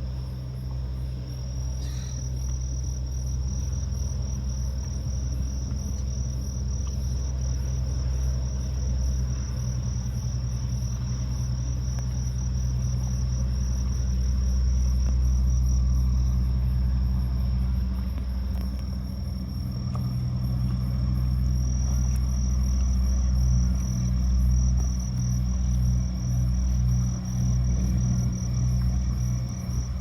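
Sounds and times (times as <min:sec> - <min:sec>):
insects trilling: 0:00.0 - 0:30.0
low rumble: 0:00.0 - 0:30.0.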